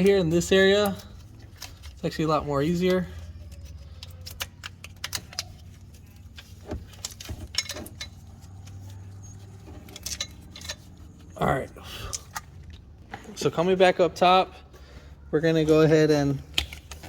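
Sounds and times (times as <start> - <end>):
hands clicking and rattling wiring: 0.0 - 13.7, 15.7 - 17.0.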